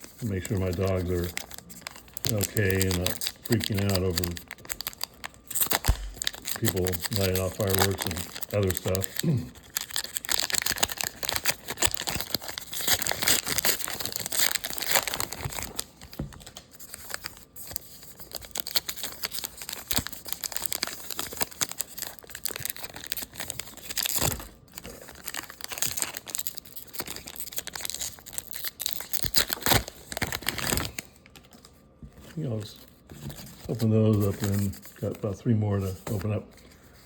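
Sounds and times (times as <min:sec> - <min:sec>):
plastic wrapping crinkling: 0:00.0 - 0:37.0.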